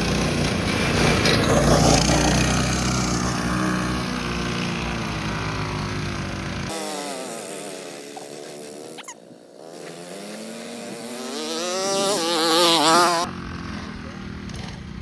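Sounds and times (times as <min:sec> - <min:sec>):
mini bike engine revving: 0:00.0 - 0:15.0.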